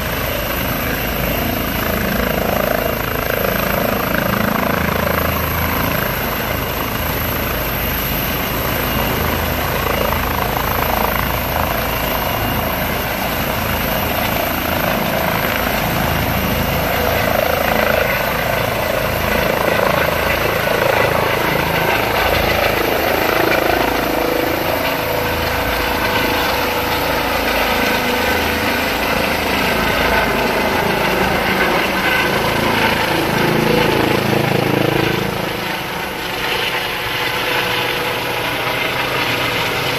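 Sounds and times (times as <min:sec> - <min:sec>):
helicopter rotor noise: 0:00.0 - 0:39.9.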